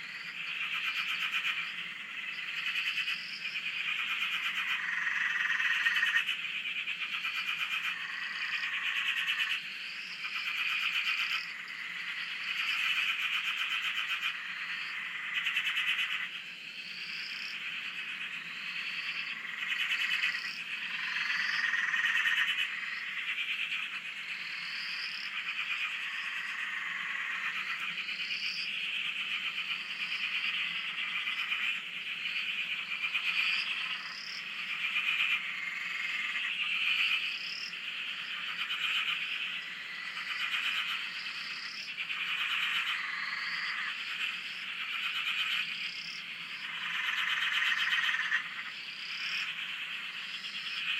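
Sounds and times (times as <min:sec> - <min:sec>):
frogs trilling: 0:00.0 - 0:50.9.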